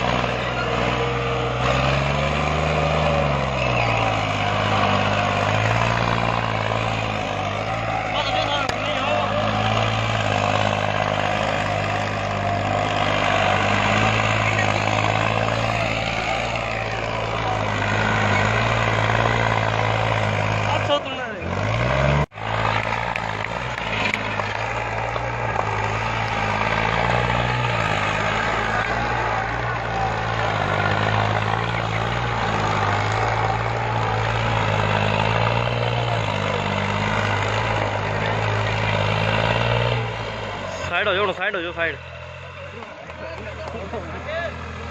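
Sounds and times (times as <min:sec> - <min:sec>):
tractor diesel engine humming: 0:00.0 - 0:44.9.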